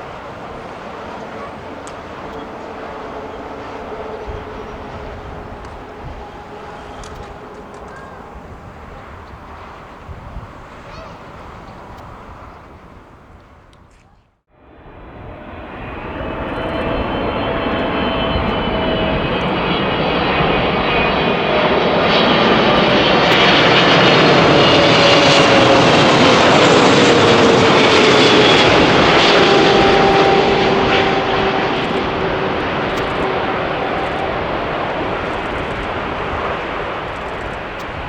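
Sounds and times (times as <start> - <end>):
jet engines roaring past: 0.0 - 38.0.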